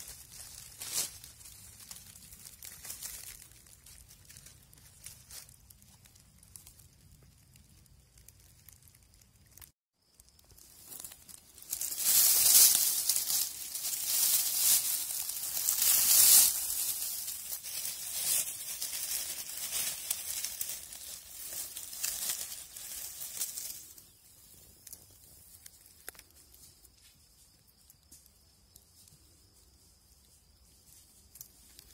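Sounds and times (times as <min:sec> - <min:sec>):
dry leaves rustling: 0:00.0 - 0:08.8, 0:09.4 - 0:27.0.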